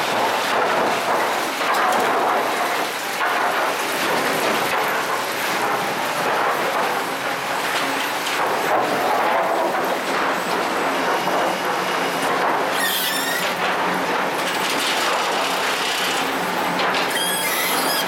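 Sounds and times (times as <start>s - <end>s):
lumber stacking machine running: 0.0s - 18.0s.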